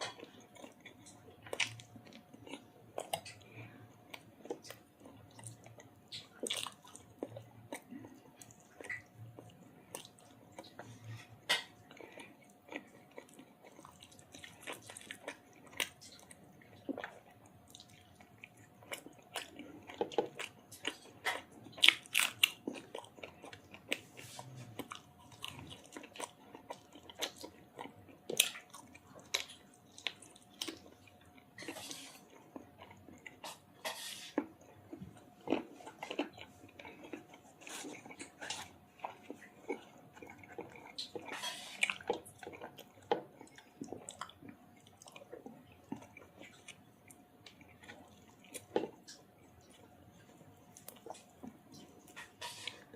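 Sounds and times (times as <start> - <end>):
chewing and mouth smacks: 0.0 - 52.9.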